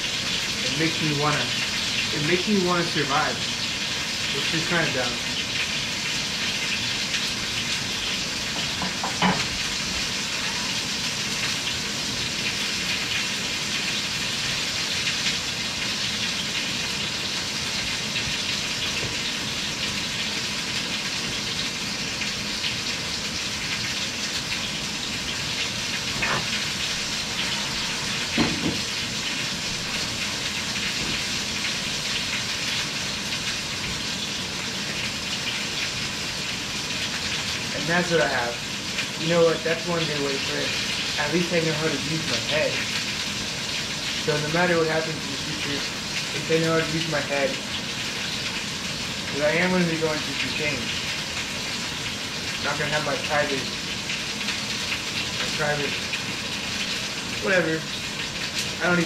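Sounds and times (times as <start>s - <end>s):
food sizzling in frying: 0.0s - 59.0s.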